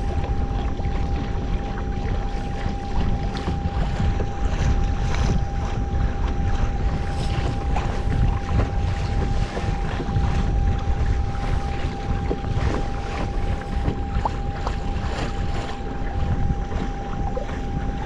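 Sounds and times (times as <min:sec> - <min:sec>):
moving water: 0:00.0 - 0:18.0
steady hum: 0:00.0 - 0:18.0
wind buffeting microphone: 0:00.0 - 0:18.0.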